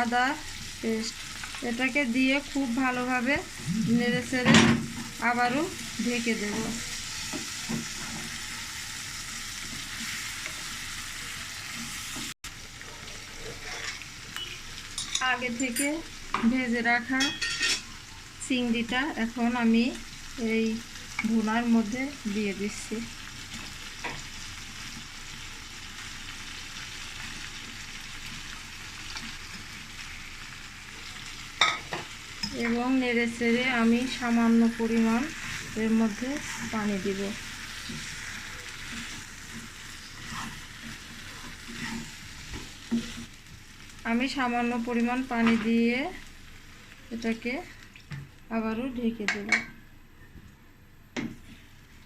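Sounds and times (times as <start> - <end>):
paste sizzling in oil: 0.0 - 48.0.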